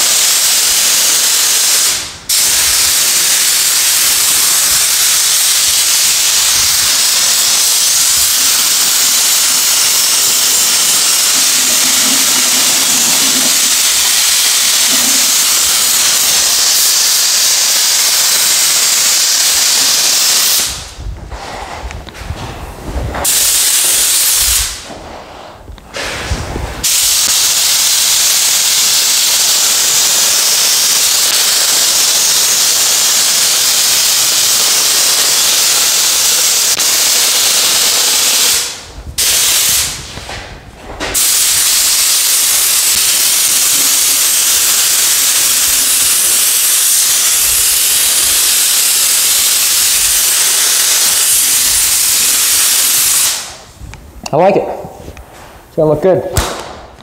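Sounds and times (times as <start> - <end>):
paint spray gun hissing: 0.0 - 20.9, 23.2 - 24.9, 26.8 - 40.1, 41.2 - 53.7.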